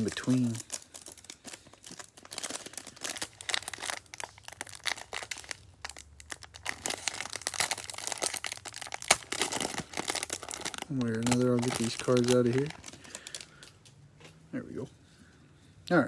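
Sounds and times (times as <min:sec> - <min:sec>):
plastic wrap crinkling: 0:00.0 - 0:13.9.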